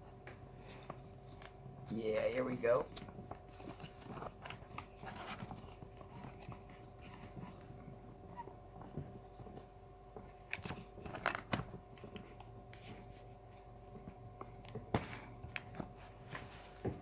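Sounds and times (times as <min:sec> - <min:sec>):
faint electronic hum: 0:00.0 - 0:17.0
clicks and rustles of handling: 0:02.8 - 0:17.0.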